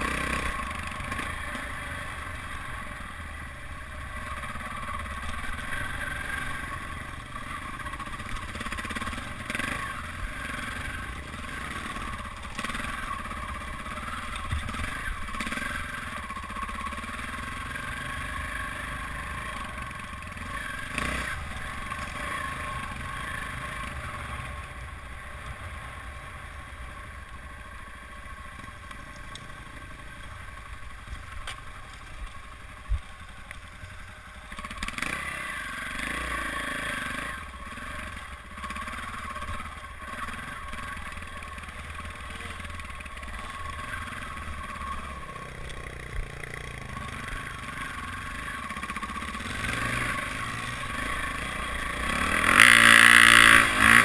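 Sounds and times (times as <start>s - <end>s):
dirt bike engine revving: 0.0s - 24.7s, 34.4s - 54.0s.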